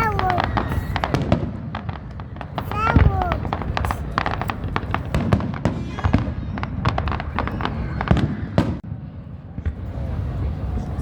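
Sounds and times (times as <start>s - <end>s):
booming firework bursts: 0.0s - 10.5s
fireworks bangs and crackling pops: 0.0s - 10.8s.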